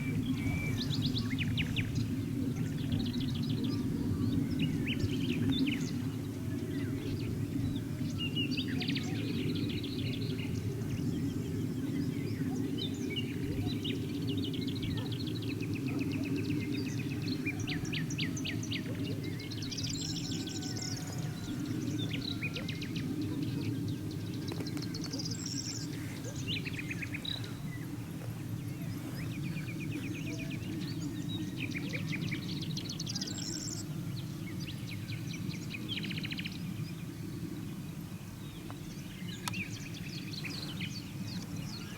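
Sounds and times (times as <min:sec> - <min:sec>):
birds singing and calling: 0:00.0 - 0:41.9
loud bird song phrase: 0:00.0 - 0:41.9.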